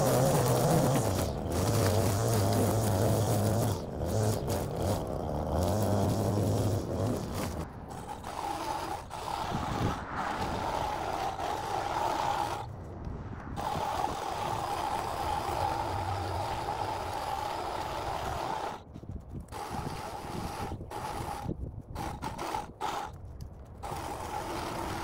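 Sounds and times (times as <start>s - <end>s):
hedge trimmer whining: 0.0s - 12.7s, 13.5s - 23.2s, 23.8s - 25.0s.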